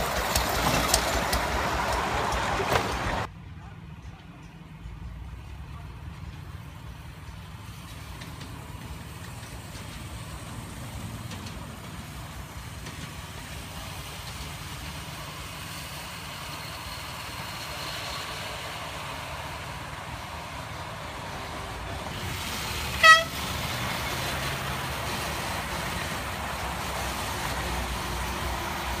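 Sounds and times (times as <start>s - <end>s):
miniature locomotive engine rumbling: 0.0s - 29.0s.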